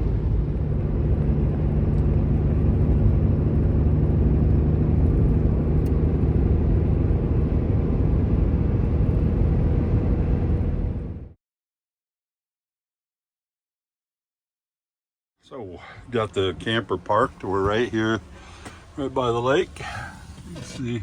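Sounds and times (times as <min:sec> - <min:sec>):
truck engine and road rumble: 0:00.0 - 0:11.4, 0:15.5 - 0:21.0.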